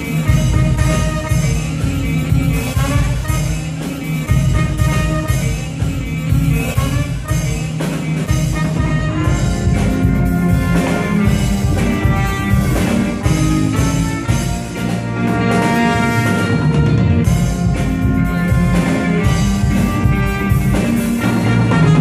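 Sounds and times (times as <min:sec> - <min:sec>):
drum kit: 0:00.0 - 0:22.0
guitar: 0:00.0 - 0:22.0
keyboard: 0:00.0 - 0:22.0
trombone: 0:00.0 - 0:22.0
trumpet: 0:00.0 - 0:22.0.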